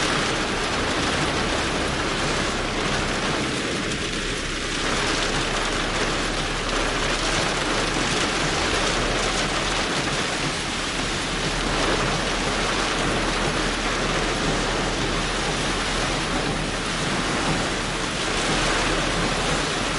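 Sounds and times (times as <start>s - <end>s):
heavy rain on car roof: 0.0s - 19.9s.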